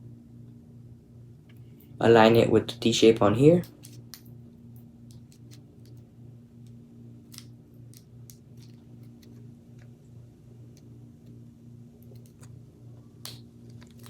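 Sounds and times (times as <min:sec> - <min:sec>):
steady low pulsing hum: 0:00.0 - 0:14.0.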